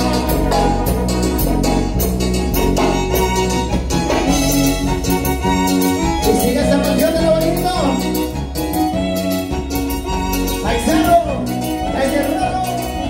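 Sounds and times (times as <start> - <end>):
latin dance band music: 0.0 - 13.0.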